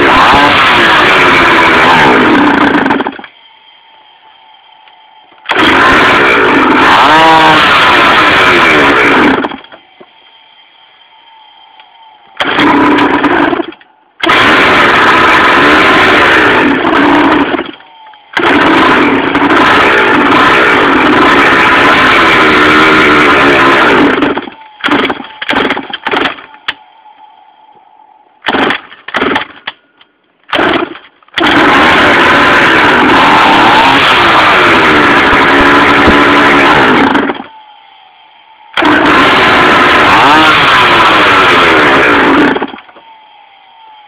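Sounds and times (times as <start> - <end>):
small two-stroke engine revving: 0.0 - 27.3, 28.4 - 29.5, 30.5 - 44.0.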